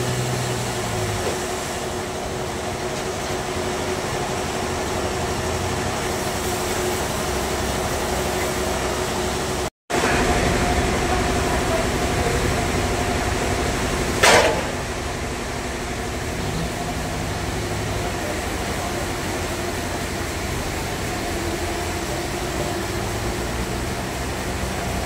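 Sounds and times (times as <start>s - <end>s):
bandsaw machinery running: 0.0s - 25.0s
loud burst of noise: 0.0s - 25.0s.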